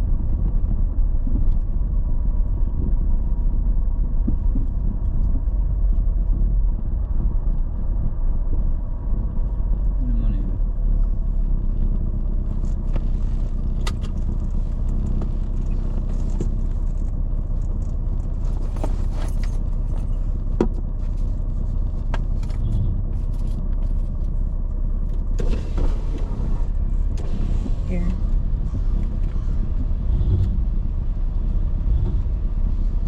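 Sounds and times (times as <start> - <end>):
car engine and tyres rumbling: 0.0 - 33.0.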